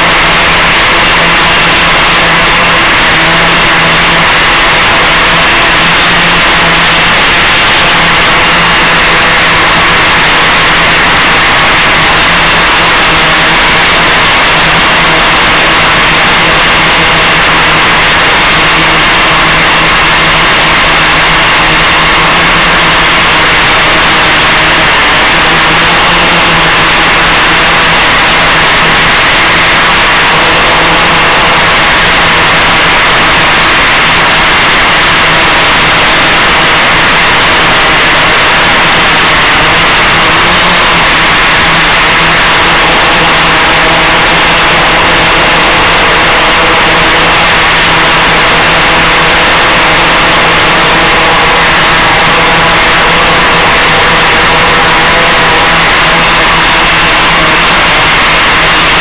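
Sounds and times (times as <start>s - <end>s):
steady loud hiss: 0.0s - 59.0s.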